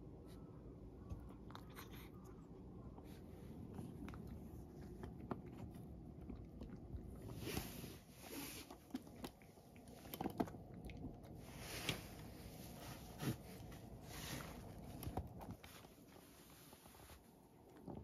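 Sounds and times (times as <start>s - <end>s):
cat crunching dry kibble: 1.3s - 16.6s.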